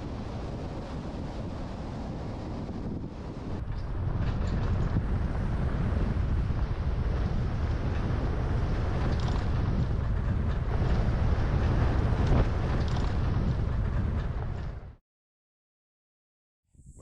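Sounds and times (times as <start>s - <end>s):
vehicle road rumble: 0.0s - 15.0s
wind buffeting microphone: 0.0s - 15.0s.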